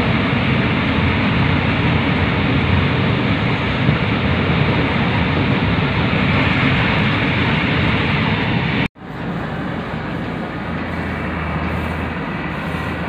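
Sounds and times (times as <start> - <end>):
hiss: 0.0 - 13.0
train low rumble: 0.0 - 13.0.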